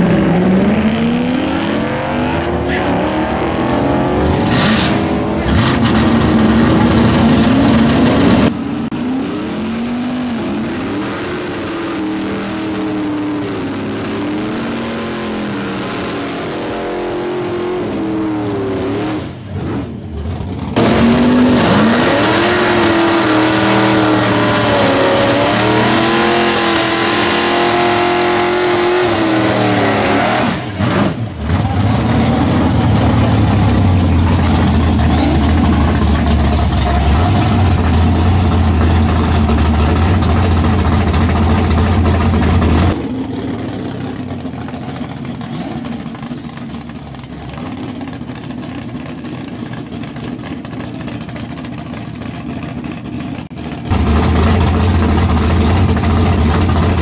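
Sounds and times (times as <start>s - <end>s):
race car engines at full throttle: 0.0s - 57.0s.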